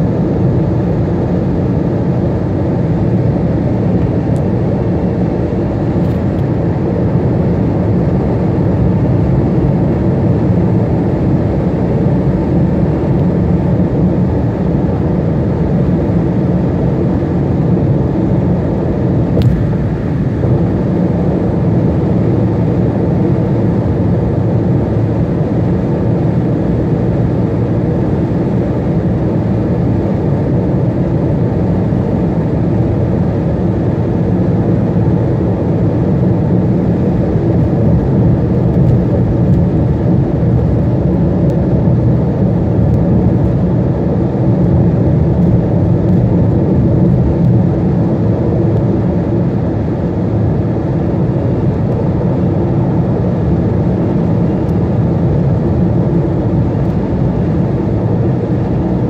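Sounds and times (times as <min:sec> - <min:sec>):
vehicle rumbling on highway: 0:00.0 - 0:59.0.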